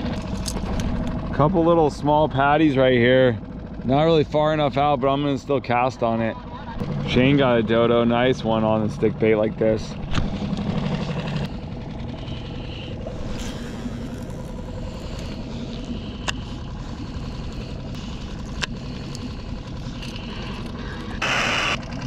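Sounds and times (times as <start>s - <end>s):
small boat motor running: 0.0s - 22.0s.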